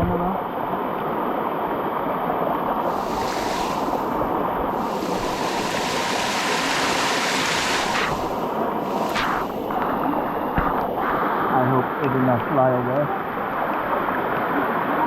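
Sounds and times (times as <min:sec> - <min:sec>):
waterfall rushing over rocks: 0:02.4 - 0:15.0.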